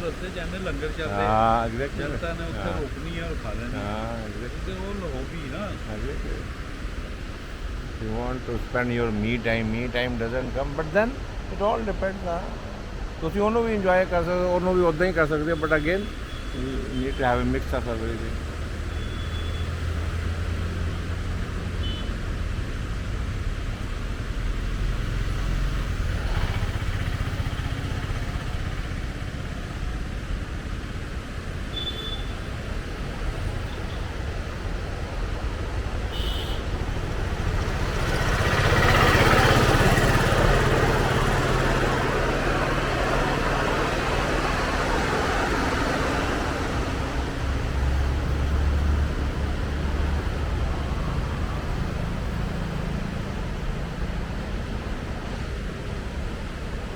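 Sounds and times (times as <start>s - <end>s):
car engine and road noise: 0.0s - 56.9s
rush of passing noise: 0.0s - 56.9s.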